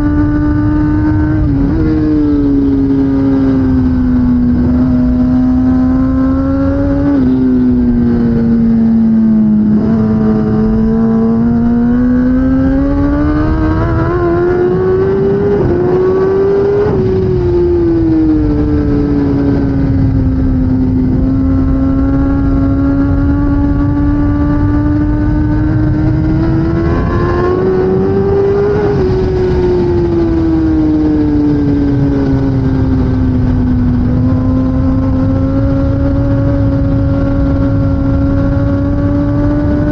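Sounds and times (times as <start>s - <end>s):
constant rushing noise: 0.0s - 39.9s
motorcycle engine revving: 0.0s - 39.9s.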